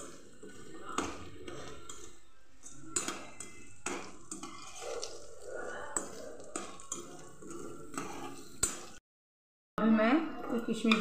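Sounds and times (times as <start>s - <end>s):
food frying in oil: 0.0s - 9.0s
spoon scraping a pan: 0.0s - 9.0s.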